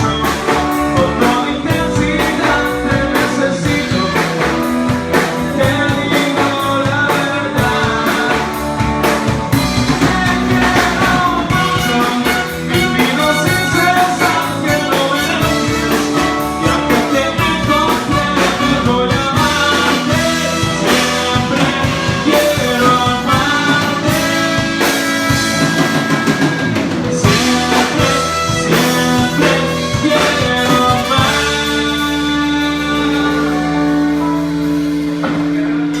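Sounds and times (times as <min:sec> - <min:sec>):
band playing amplified music: 0:00.0 - 0:36.0.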